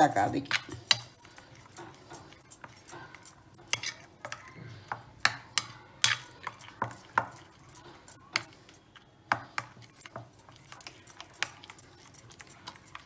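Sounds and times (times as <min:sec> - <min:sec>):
metal spoon clinking on bowl: 0:00.0 - 0:13.0
spoon scraping bowl: 0:00.0 - 0:13.0.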